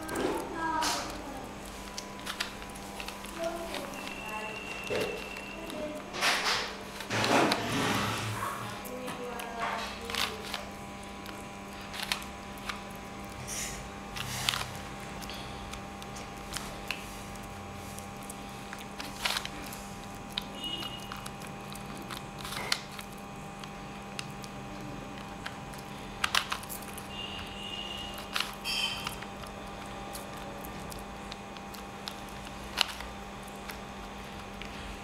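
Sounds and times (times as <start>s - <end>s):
puzzle cube plastic clicks: 0.0s - 8.0s, 8.9s - 13.4s, 14.1s - 34.8s
steady hum: 0.0s - 35.0s.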